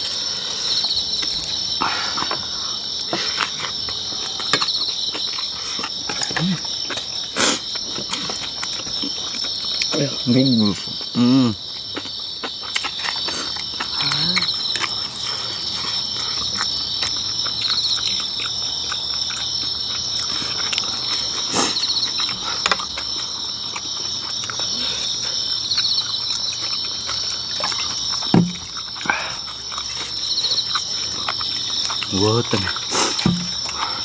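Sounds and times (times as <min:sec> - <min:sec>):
crickets and insects chirping: 0:00.0 - 0:34.0
insect trilling: 0:00.0 - 0:34.0
person chewing and lip smacking: 0:01.1 - 0:10.0, 0:11.0 - 0:34.0.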